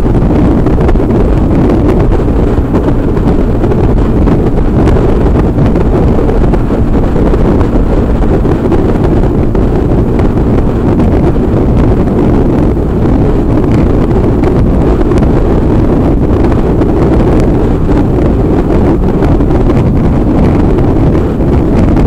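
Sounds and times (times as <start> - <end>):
motorcycle engine: 0.0 - 21.8
wind buffeting microphone: 0.0 - 22.0.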